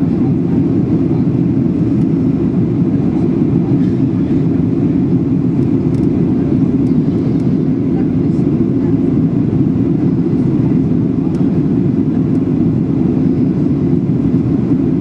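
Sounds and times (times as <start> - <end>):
airplane cabin engine noise: 0.0 - 15.0.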